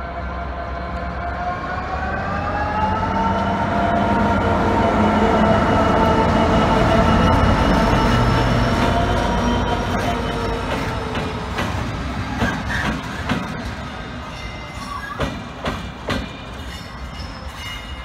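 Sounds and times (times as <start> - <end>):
diesel locomotive passing: 0.0 - 18.0.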